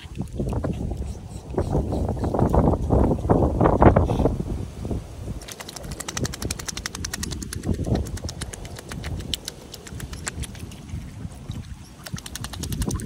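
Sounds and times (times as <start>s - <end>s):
swan bill clicking and splashing: 0.0s - 3.4s, 5.3s - 13.0s
wind rumble on microphone: 0.0s - 13.0s.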